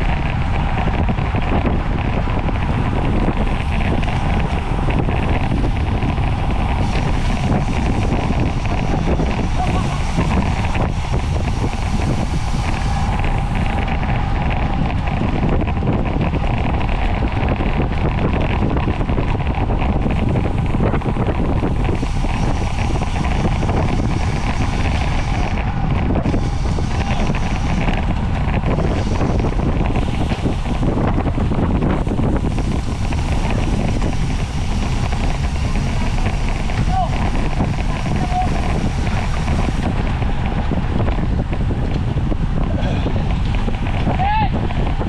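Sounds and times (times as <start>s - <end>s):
road and tyre rumble: 0.0s - 45.0s
wind rushing over microphone: 0.0s - 45.0s.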